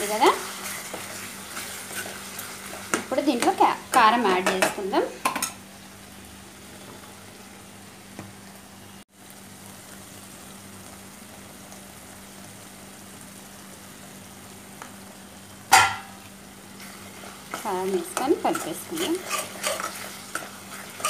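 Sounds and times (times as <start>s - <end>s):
curry sizzling and simmering: 0.0s - 21.0s.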